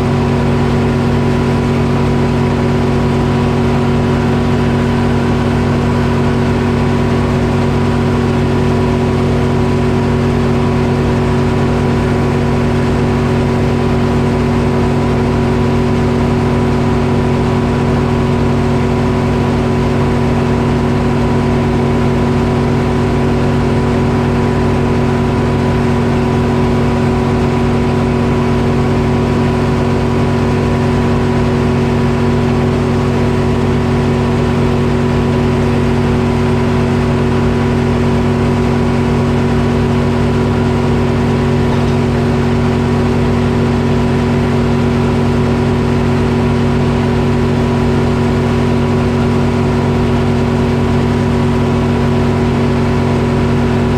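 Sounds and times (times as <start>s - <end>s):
diesel engine running steadily: 0.0s - 53.9s.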